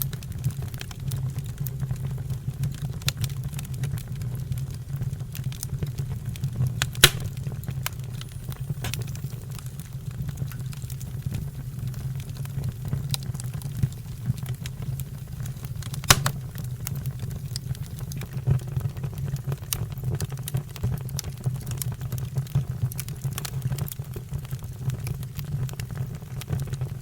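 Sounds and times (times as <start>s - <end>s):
fire burning with crackles: 0.0s - 27.0s.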